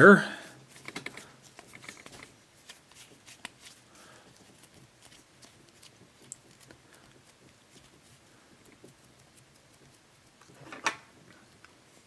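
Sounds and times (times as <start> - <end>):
hands kneading modelling dough: 0.0 - 12.0.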